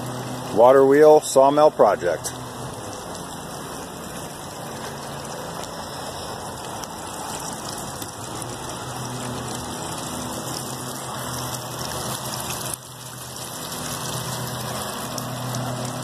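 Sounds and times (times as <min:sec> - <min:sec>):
water rushing and splashing: 0:00.0 - 0:16.0.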